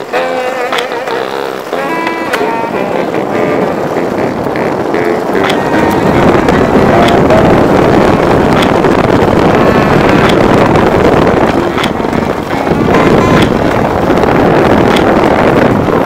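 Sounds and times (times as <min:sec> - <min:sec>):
low rumble of rolling on road: 0:00.0 - 0:16.0
wind buffeting microphone: 0:00.0 - 0:16.0.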